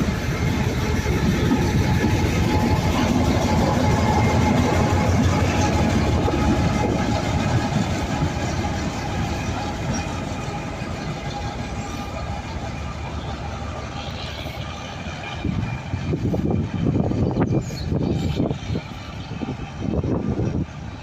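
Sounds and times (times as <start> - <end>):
train rumble and wheel clatter: 0.0 - 21.0.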